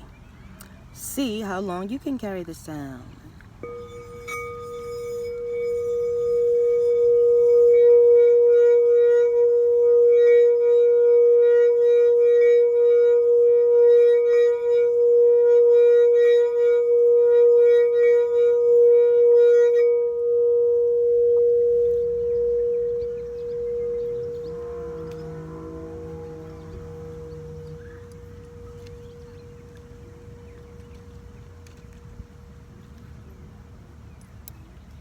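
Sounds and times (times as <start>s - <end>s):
singing bowl ringing: 3.6s - 32.9s.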